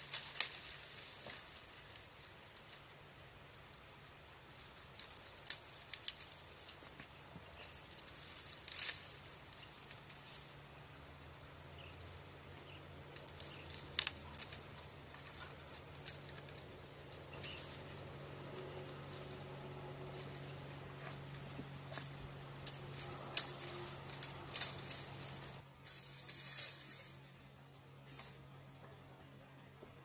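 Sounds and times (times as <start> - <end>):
dry reeds crackling and rustling: 0.0 - 30.0
faint low hum: 0.0 - 30.0.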